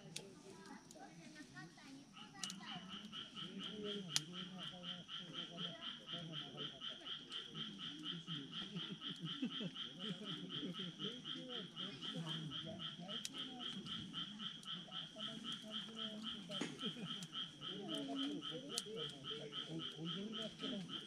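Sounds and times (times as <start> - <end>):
campfire embers cracking: 0.0 - 6.2, 6.9 - 21.0
frogs calling: 1.6 - 21.0.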